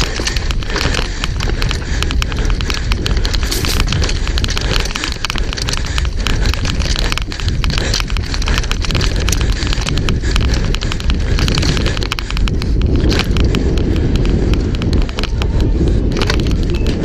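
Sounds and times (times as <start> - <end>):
bike clicking and rattling: 0.0 - 17.0
tyres crunching on rocky trail: 0.0 - 17.0
wind buffeting microphone: 0.0 - 17.0.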